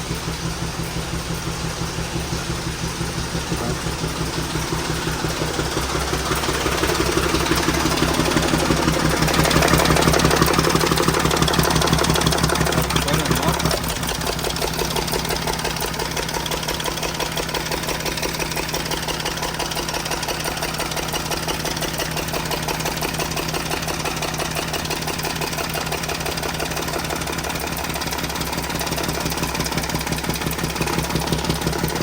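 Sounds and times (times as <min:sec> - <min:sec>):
car engine running with clatter: 0:00.0 - 0:32.0.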